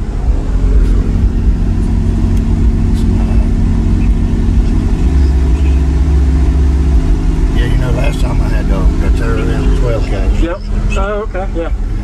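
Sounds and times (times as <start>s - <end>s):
subwoofers playing deep bass music: 0.0s - 12.0s.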